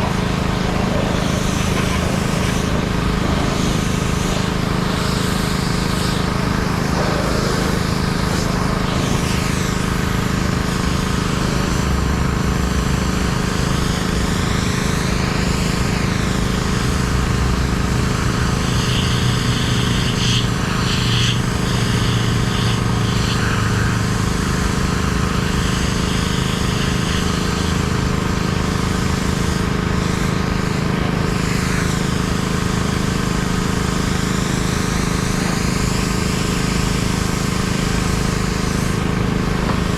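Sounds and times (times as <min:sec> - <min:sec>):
engine hum: 0:00.0 - 0:39.9
high-pressure water spray hissing: 0:00.0 - 0:39.9.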